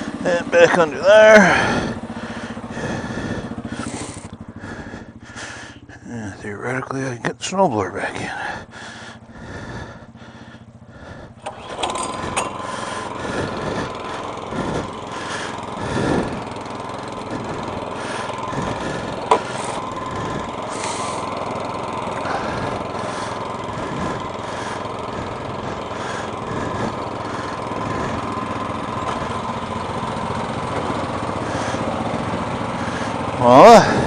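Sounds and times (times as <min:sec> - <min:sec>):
snowblower engine running: 0:00.0 - 0:34.0.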